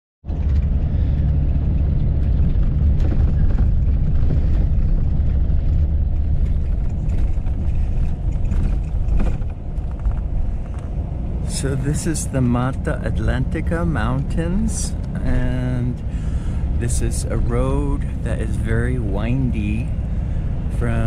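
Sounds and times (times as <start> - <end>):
bus engine and road rumble: 0.2 - 21.0.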